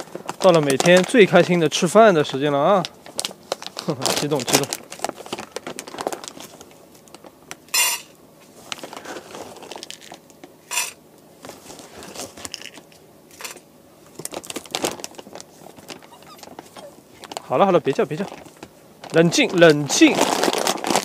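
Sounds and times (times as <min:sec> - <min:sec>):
food bag crinkling: 0:00.0 - 0:01.9, 0:02.8 - 0:07.4, 0:08.7 - 0:10.3, 0:11.6 - 0:21.0.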